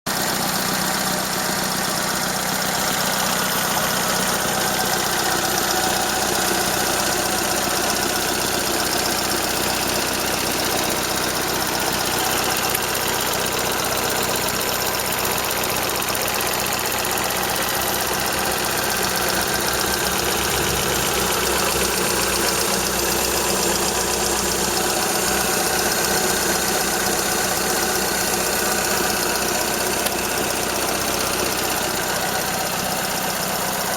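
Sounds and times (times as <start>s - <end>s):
car engine idling: 0.1s - 33.9s
engine tapping rattle: 0.1s - 33.9s.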